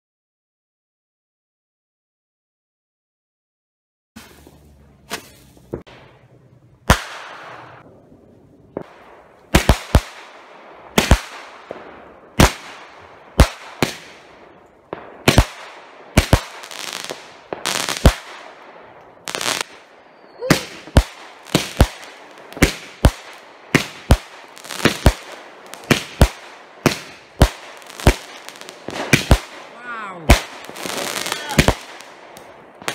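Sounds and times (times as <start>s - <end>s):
fireworks bangs: 4.2s - 32.9s.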